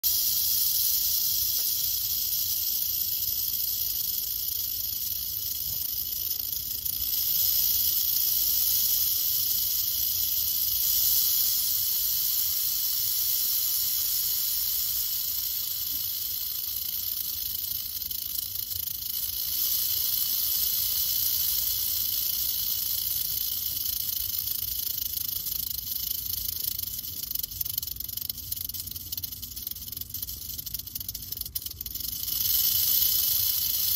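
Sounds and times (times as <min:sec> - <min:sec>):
rattlesnake rattling: 0:00.0 - 0:33.9.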